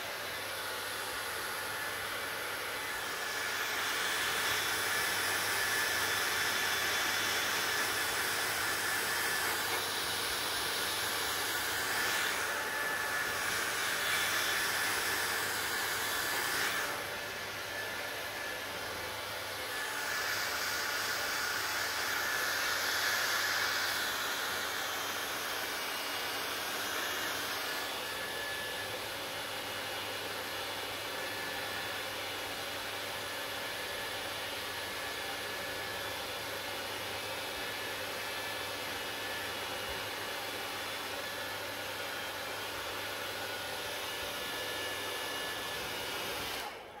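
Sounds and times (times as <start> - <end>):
hair dryer blowing: 0.0 - 47.0.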